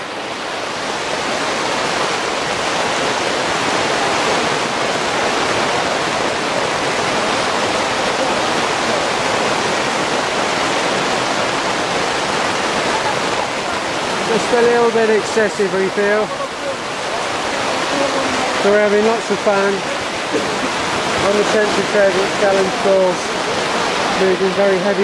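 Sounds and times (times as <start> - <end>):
heavy rain on canopy roof: 0.0 - 25.0.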